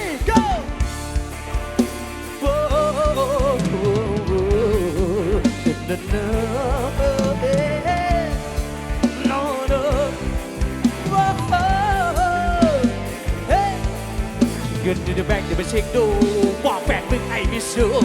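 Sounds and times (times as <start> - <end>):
bass line: 0.0 - 18.0
drum kit beat: 0.0 - 18.0.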